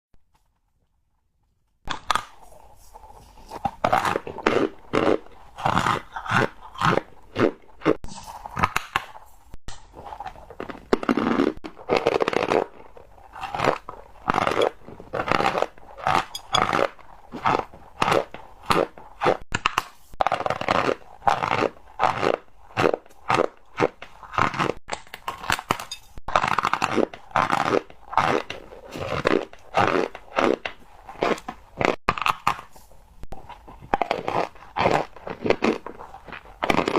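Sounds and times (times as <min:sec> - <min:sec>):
cornstarch being bitten and chewed: 0:01.8 - 0:36.9.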